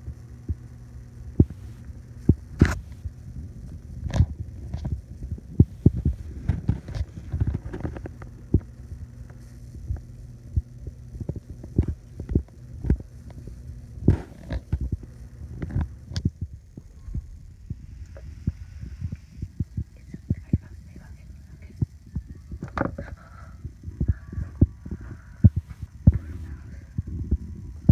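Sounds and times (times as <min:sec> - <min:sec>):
faint low hum: 0:00.0 - 0:27.9.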